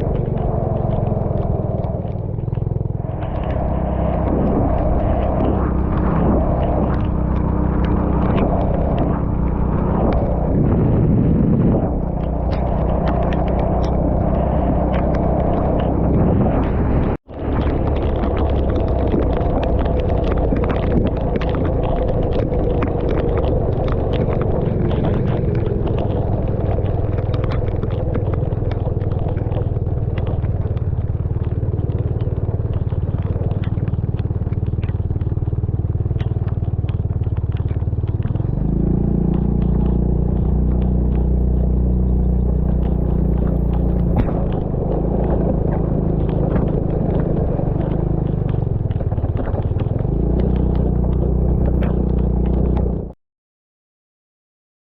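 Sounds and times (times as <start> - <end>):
rain ticking on camera: 0.0 - 10.5, 12.0 - 16.0, 17.2 - 53.1
vehicle engine running: 0.0 - 53.2.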